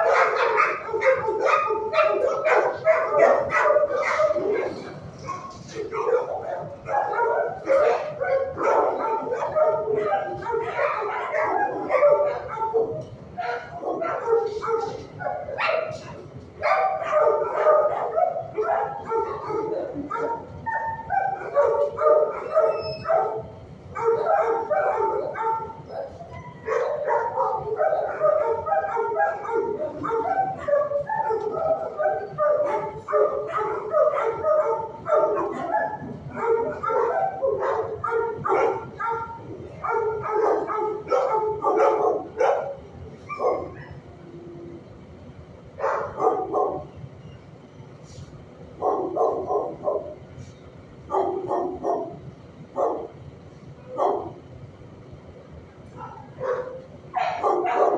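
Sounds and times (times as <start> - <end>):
dog barking: 0.0 - 44.0, 45.8 - 46.9, 48.8 - 50.2, 51.1 - 53.2, 53.9 - 54.4, 55.9 - 57.9.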